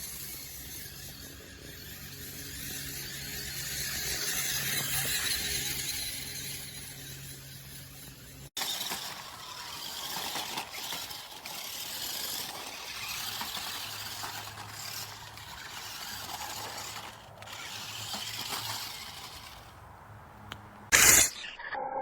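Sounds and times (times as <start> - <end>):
toy truck electric motor rattling: 0.0 - 19.9, 20.9 - 21.5.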